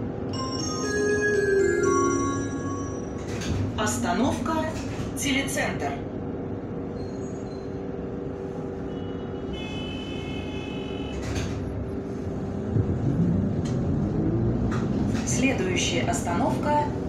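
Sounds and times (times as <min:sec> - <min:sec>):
trolleybus electric hum: 0:00.0 - 0:17.0.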